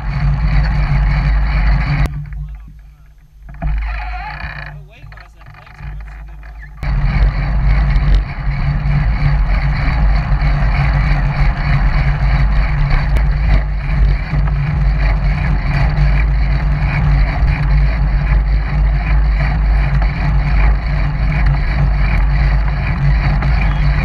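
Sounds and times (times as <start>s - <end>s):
wind buffeting microphone: 0.0s - 4.0s, 4.8s - 24.0s.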